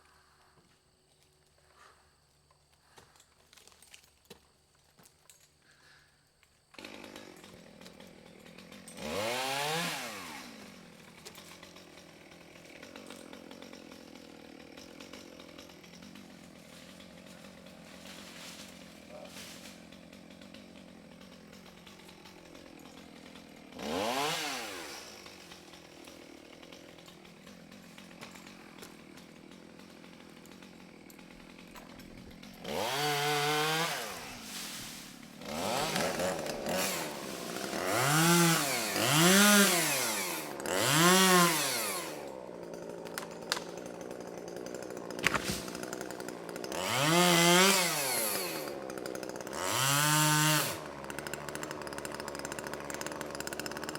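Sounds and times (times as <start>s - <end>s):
chainsaw idling and revving: 6.6s - 53.9s.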